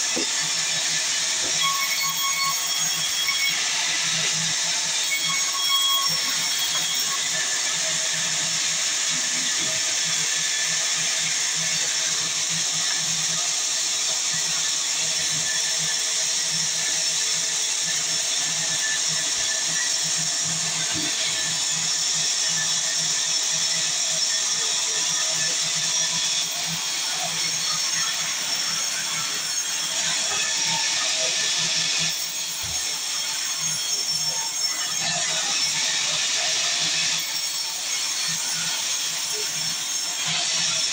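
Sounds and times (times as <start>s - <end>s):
saw cutting timber: 0.0s - 40.9s.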